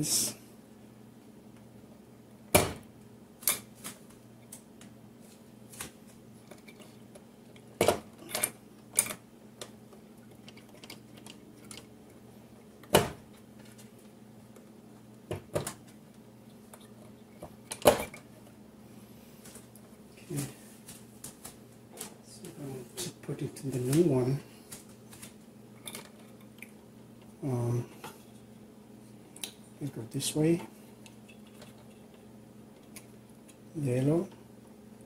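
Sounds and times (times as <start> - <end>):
faint low hum: 0.0 - 35.0.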